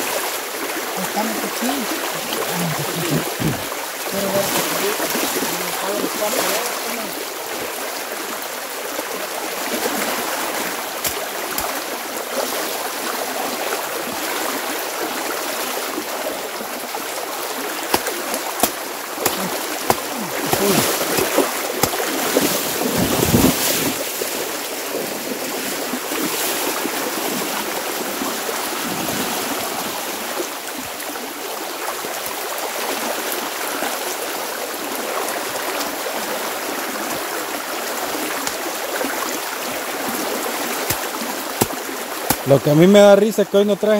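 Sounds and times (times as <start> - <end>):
splashing in water: 0.0 - 7.6, 9.5 - 14.8, 15.7 - 30.4, 34.8 - 42.8
creek rushing: 0.0 - 43.9.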